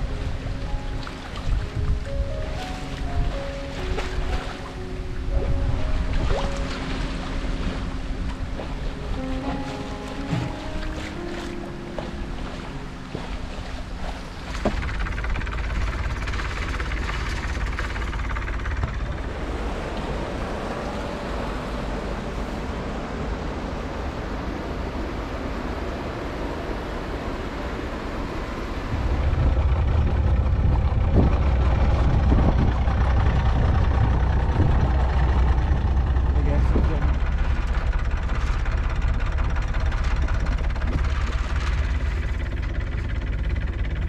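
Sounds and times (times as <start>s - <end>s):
low rumble: 0.0s - 44.0s
wind and water rushing: 0.0s - 44.0s.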